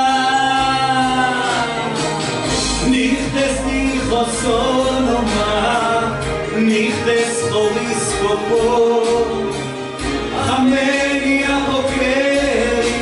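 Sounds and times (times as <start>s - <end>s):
instrumental accompaniment: 0.0s - 13.0s
man singing into a microphone: 0.0s - 13.0s.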